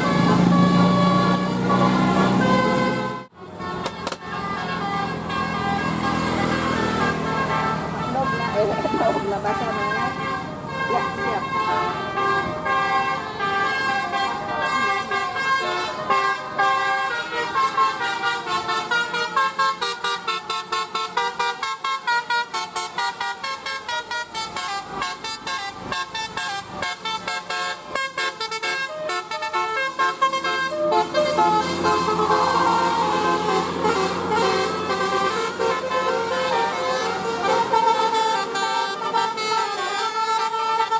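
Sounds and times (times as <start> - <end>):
multi-tone bus horn tune: 0.0 - 40.9.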